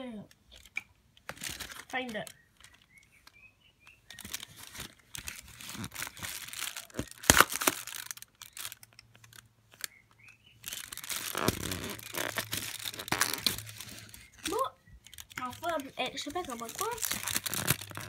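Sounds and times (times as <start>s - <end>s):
card crinkling and tearing: 1.2s - 2.9s, 4.1s - 10.0s, 10.6s - 18.0s.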